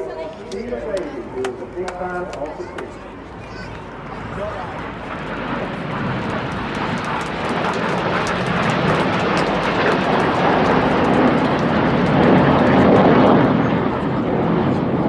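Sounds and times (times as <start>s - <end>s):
jet engines flying past: 0.0s - 15.0s.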